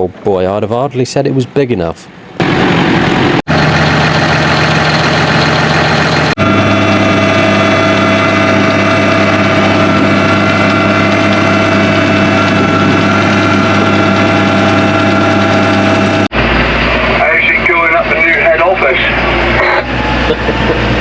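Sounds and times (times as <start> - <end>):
steady whine: 2.3 - 21.0
tractor engine running: 2.3 - 21.0.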